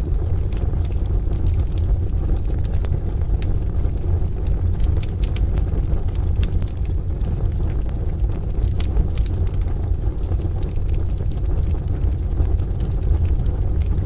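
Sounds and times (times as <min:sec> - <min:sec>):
low rumble of fire: 0:00.0 - 0:14.0
sharp pops of fire: 0:00.0 - 0:14.0
wood stove fire crackling: 0:00.0 - 0:14.0.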